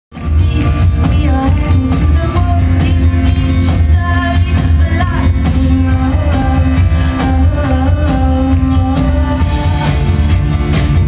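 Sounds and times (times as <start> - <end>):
heavy steady bass: 0.1 - 11.0
woman singing: 0.2 - 11.0.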